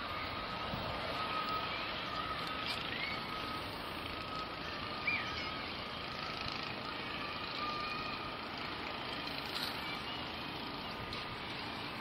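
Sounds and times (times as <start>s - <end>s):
diesel train engine and rolling: 0.0s - 12.0s
thin high tone: 0.0s - 12.0s.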